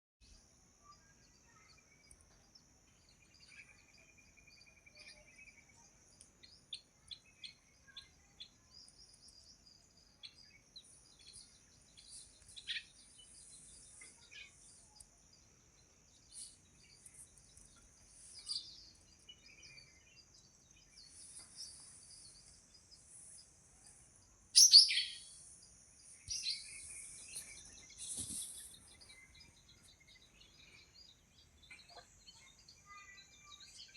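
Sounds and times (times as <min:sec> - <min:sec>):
songbirds chirping: 0:00.2 - 0:33.9.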